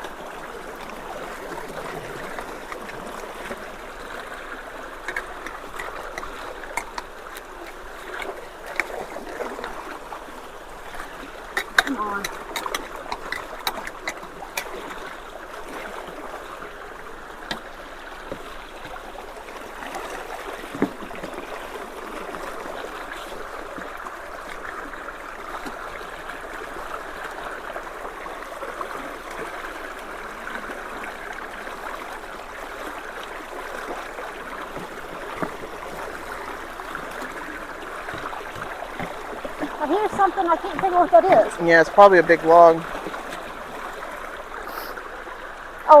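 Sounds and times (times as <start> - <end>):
creek water pouring into culvert: 0.0 - 46.0.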